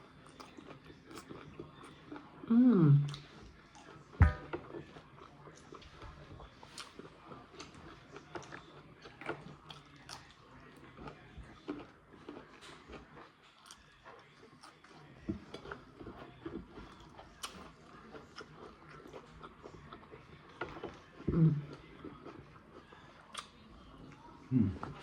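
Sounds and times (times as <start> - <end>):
people chewing: 0.0 - 25.0.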